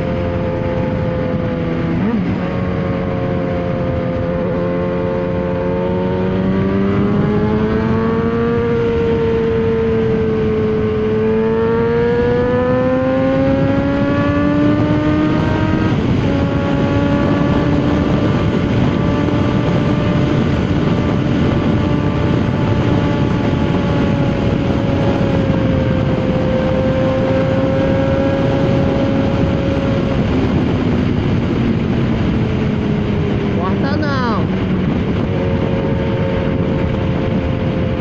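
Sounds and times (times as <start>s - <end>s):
motorcycle engine accelerating: 0.0s - 38.0s
steady rushing noise: 0.0s - 38.0s.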